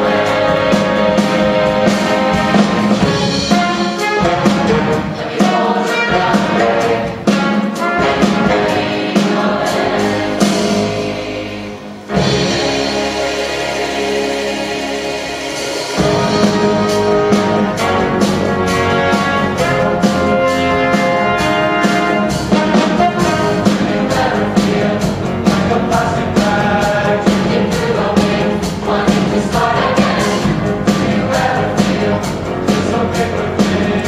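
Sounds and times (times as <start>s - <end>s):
instrumental accompaniment: 0.0s - 34.0s
large choir singing: 0.0s - 34.0s
steady percussive beat: 0.0s - 34.0s.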